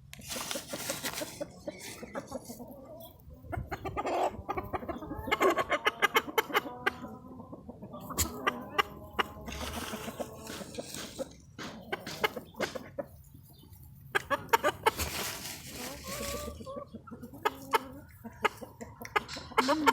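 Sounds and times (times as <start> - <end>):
chickens clucking: 0.3 - 19.9.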